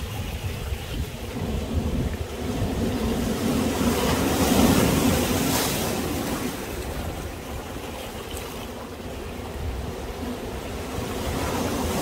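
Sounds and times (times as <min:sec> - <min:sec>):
sea waves surging: 0:00.0 - 0:12.0.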